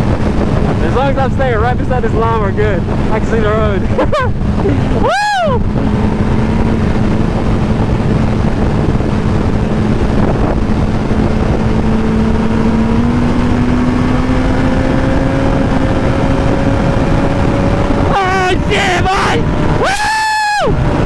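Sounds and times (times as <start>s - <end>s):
constant rushing noise: 0.0s - 21.0s
motorcycle engine pulling at speed: 0.0s - 21.0s.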